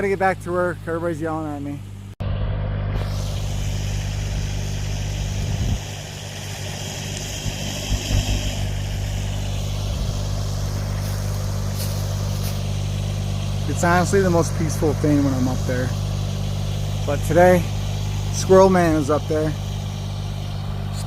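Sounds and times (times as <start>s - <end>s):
machine engine running: 0.0s - 21.0s.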